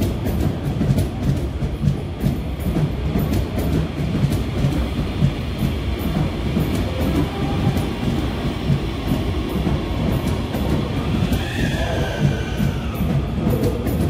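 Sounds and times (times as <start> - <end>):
train cars rumbling: 0.0 - 14.0
wheels clicking over rails: 0.0 - 14.0.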